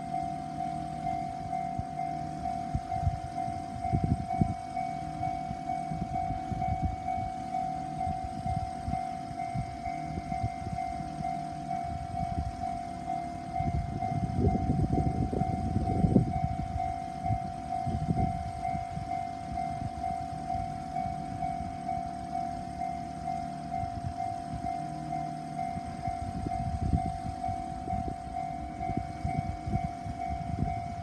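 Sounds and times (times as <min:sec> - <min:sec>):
level-crossing alarm ringing: 0:00.0 - 0:31.0
train rumbling past: 0:00.0 - 0:31.0.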